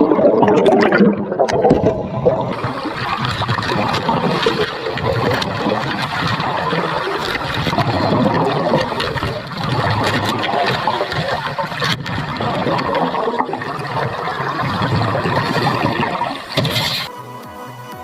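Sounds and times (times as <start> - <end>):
water churning and bubbling: 0.0 - 17.1.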